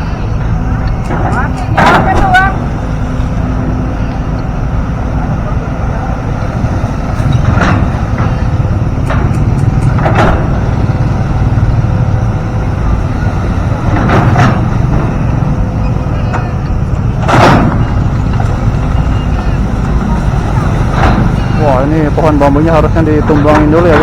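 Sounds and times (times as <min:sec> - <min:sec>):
diesel machinery rumbling: 0:00.0 - 0:24.0.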